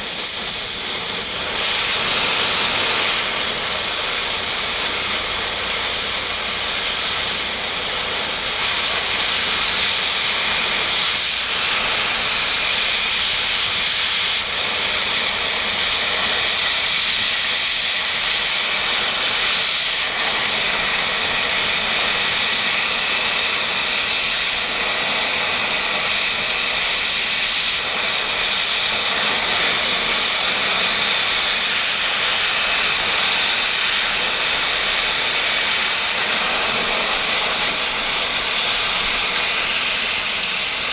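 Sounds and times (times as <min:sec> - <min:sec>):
cutting torch hissing: 0:00.0 - 0:40.9.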